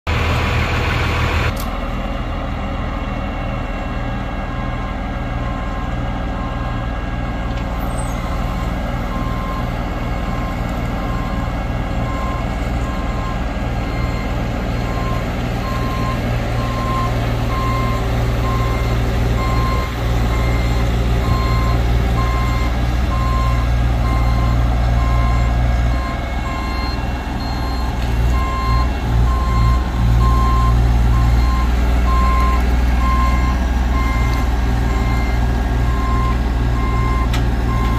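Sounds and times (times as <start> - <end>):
diesel truck engine running: 0.1 - 37.9.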